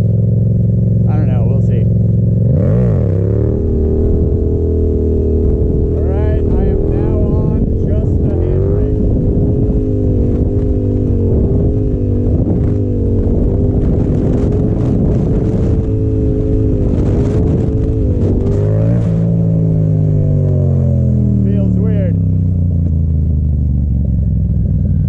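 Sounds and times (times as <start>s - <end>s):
motorcycle engine at steady revs: 0.0s - 25.0s.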